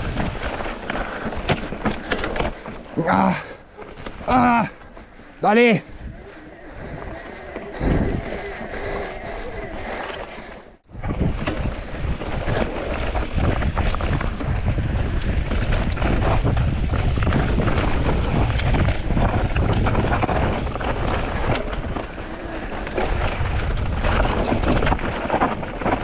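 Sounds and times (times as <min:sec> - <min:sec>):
bike rattling on rough trail: 0:00.0 - 0:26.0
wind buffeting microphone: 0:04.2 - 0:26.0.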